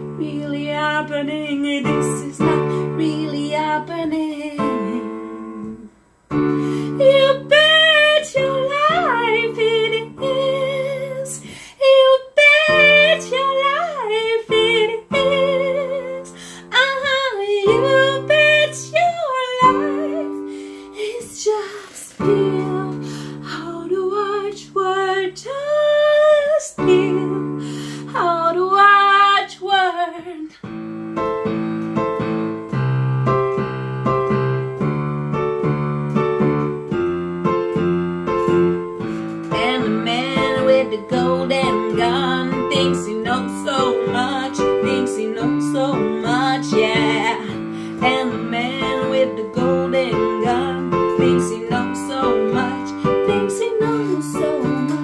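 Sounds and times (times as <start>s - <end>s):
woman singing with vibrato: 0.0s - 6.0s, 6.6s - 30.6s, 39.0s - 55.0s.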